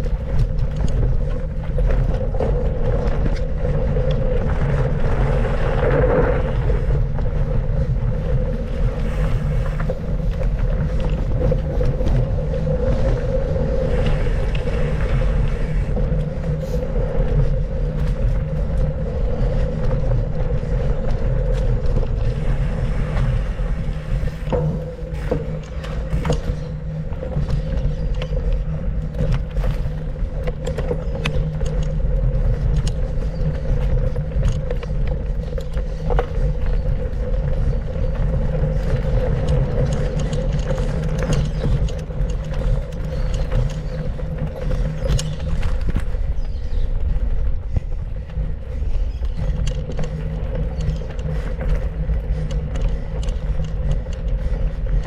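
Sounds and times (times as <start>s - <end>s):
bike rattling and knocking: 0.0s - 55.0s
rumble of wind and tyres: 0.0s - 55.0s.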